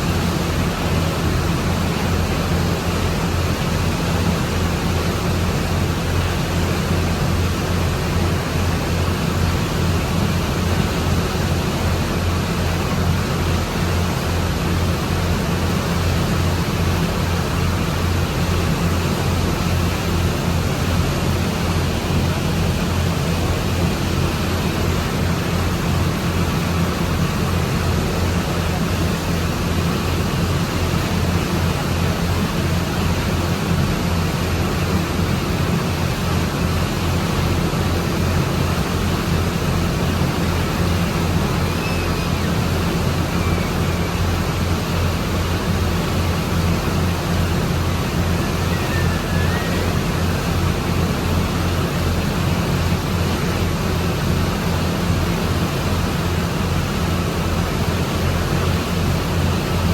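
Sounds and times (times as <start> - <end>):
boat engine drone: 0.0 - 59.9
water rushing: 0.0 - 59.9.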